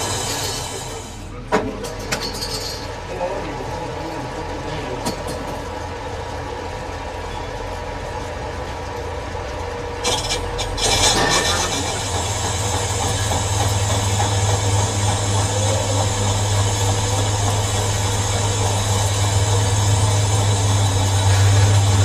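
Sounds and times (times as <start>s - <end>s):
lathe humming: 0.0s - 1.5s, 2.7s - 22.0s.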